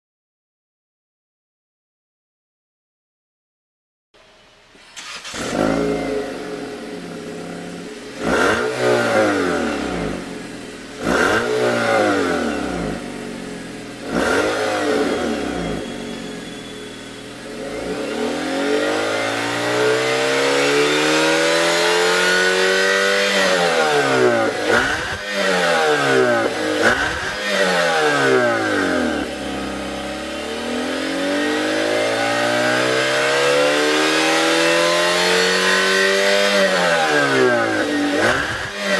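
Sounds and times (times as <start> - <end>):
car engine revving: 5.0 - 38.9.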